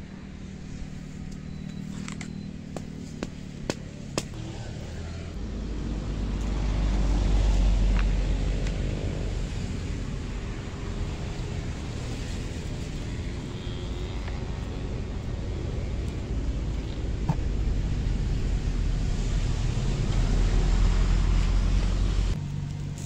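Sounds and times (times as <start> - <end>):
steady engine hum: 0.0 - 23.0
vehicle engine rumble passing: 0.0 - 23.0.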